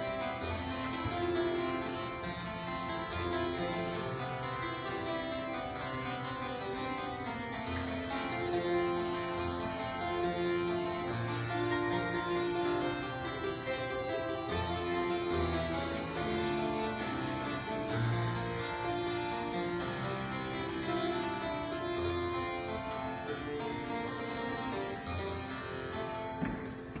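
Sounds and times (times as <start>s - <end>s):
harpsichord playing: 0.0s - 27.0s.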